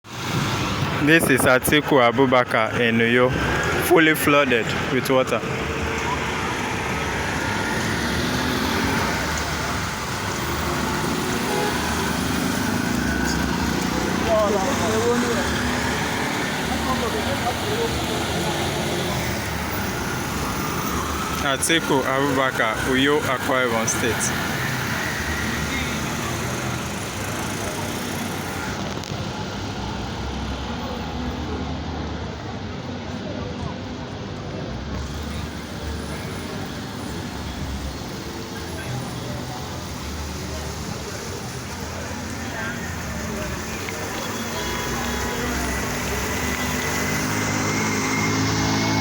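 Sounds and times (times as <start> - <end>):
road noise hiss: 0.1 - 49.0
motor vehicle engine running: 4.5 - 31.6, 34.8 - 49.0.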